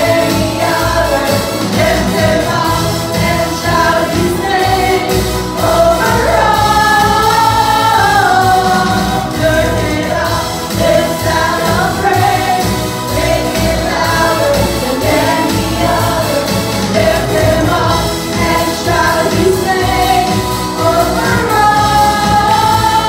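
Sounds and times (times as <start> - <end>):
group singing: 0.0 - 23.0.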